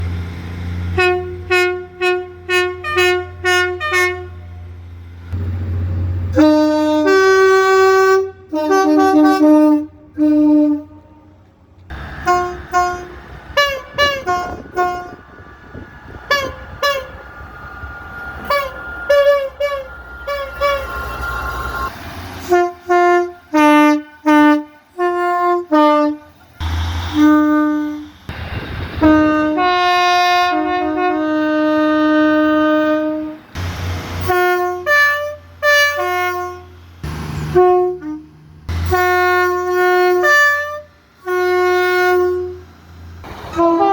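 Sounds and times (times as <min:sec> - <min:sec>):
low engine rumble: 0:00.0 - 0:43.9
train horns: 0:00.9 - 0:04.8, 0:05.4 - 0:43.9.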